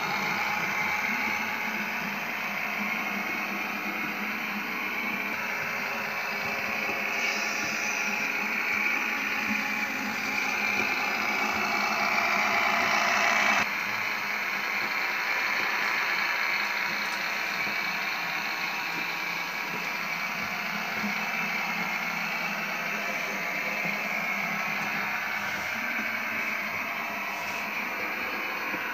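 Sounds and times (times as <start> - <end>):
model train diesel engine sound: 0.0 - 28.9.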